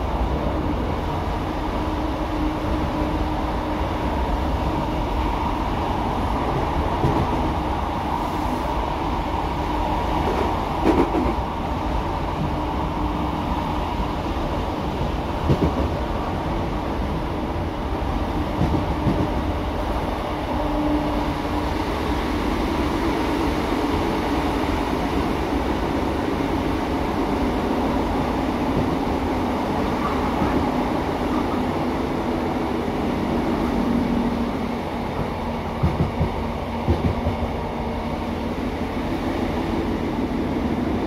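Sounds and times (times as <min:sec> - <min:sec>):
train interior drone: 0:00.0 - 0:41.0.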